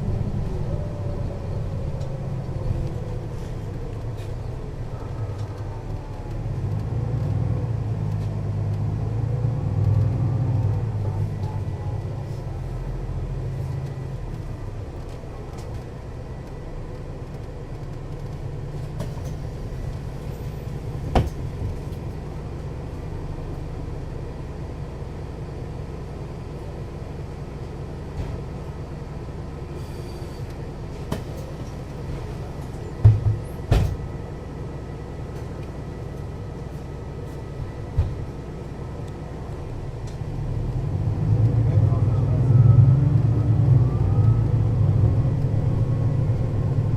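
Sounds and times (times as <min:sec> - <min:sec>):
bus engine running: 0:00.0 - 0:46.9.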